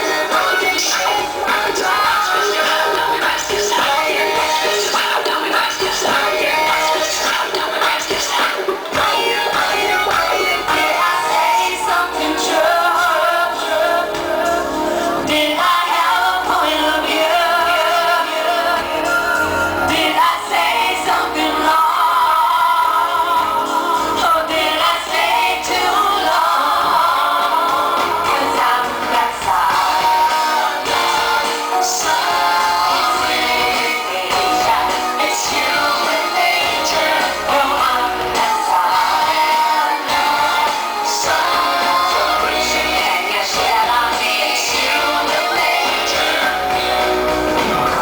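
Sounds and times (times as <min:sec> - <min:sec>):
woman singing: 0:00.0 - 0:14.6, 0:15.2 - 0:48.0
live pop band playing: 0:00.0 - 0:48.0.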